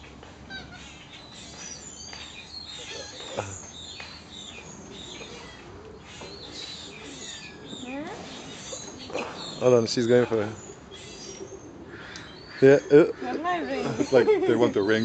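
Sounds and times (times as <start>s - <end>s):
high chirping calls and twitters: 0.5s - 15.0s.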